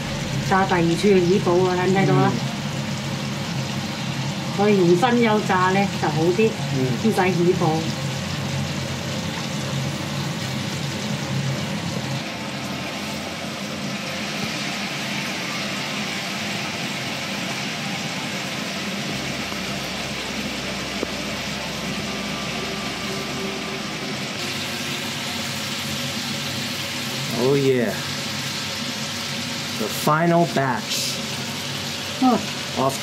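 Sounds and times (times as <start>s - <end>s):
oil sizzling and bubbling: 0.0s - 33.0s.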